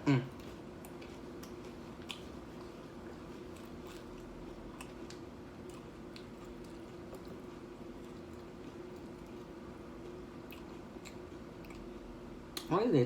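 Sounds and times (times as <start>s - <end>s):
faint low hum: 0.0s - 13.0s
chewing crisp chips: 0.1s - 12.7s.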